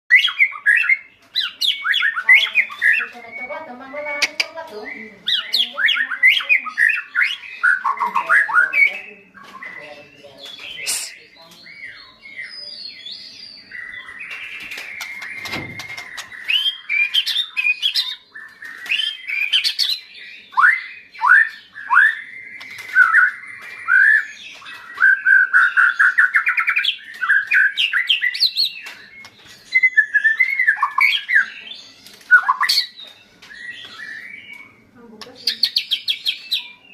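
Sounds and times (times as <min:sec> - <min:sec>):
bird singing varied song: 0:00.1 - 0:36.9.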